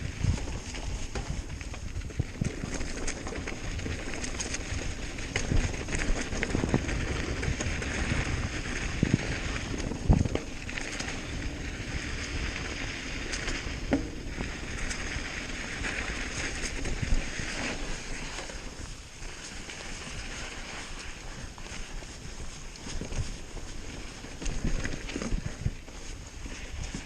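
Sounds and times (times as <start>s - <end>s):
bike rattling: 0.0s - 27.0s
wind noise on microphone: 0.0s - 27.0s.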